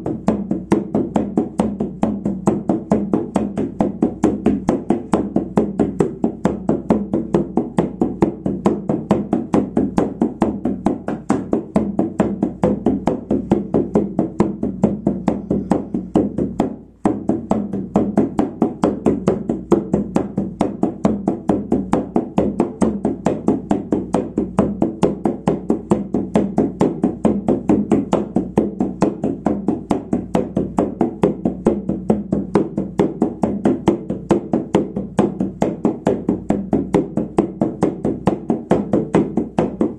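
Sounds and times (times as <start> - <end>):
frame drum beaten rhythmically: 0.0 - 39.9.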